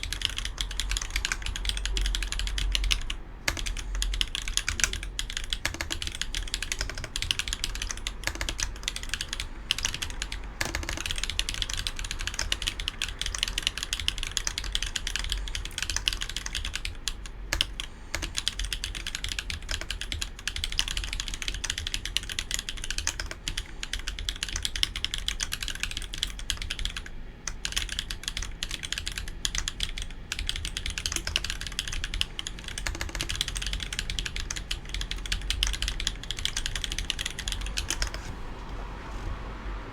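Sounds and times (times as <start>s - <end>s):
fast mechanical keyboard typing: 0.0s - 38.4s.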